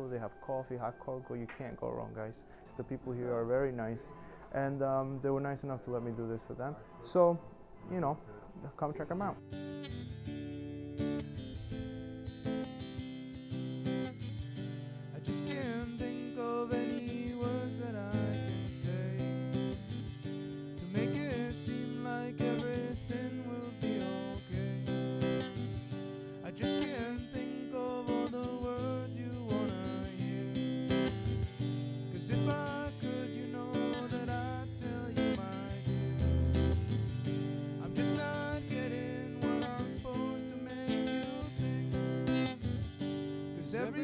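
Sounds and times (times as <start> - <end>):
strummed acoustic guitar: 0.0 - 44.0.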